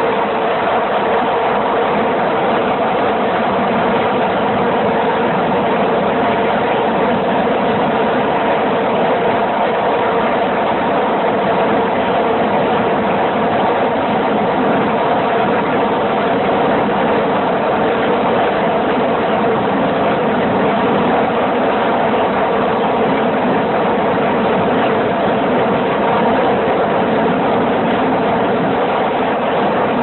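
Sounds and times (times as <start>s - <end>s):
engine drone: 0.0s - 30.0s.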